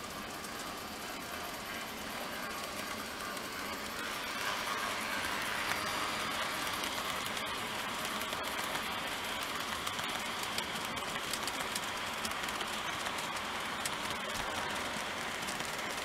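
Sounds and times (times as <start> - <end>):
model train wheels whirring on rails: 0.0 - 16.0
wheels clicking over rail joints: 0.0 - 16.0.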